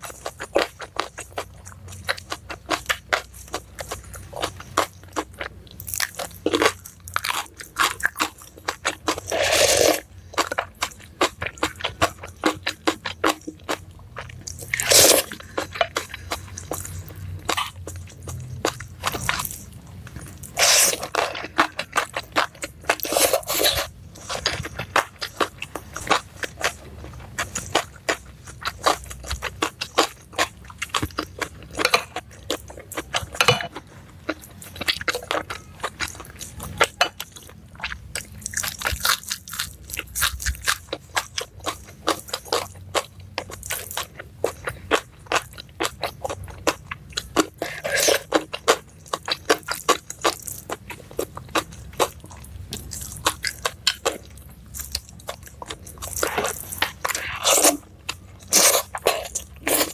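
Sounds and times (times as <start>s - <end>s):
crunching: 0.0s - 59.9s
person chewing wet mouth sounds: 0.0s - 59.9s.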